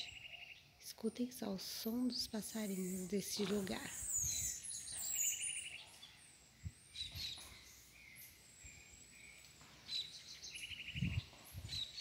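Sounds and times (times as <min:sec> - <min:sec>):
birds chirping and whistling: 0:00.0 - 0:00.8, 0:01.7 - 0:12.0
bird trill: 0:00.0 - 0:00.9, 0:01.7 - 0:12.0.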